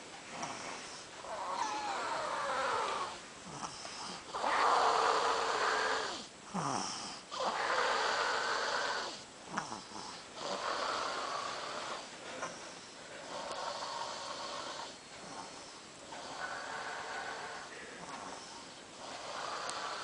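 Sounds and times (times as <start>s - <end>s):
person snoring: 0.4s - 20.0s.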